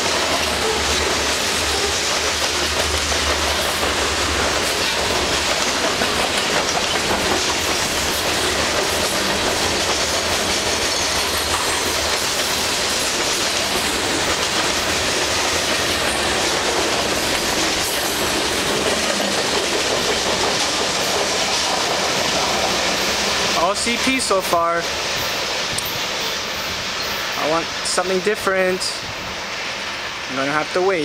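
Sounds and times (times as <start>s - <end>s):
freight train wheels on rail: 0.0s - 31.0s.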